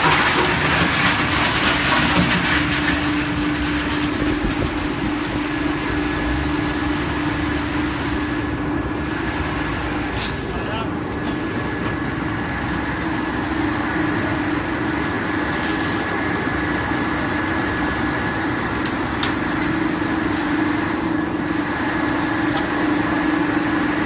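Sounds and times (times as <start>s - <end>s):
wood chipper running: 0.0s - 24.0s.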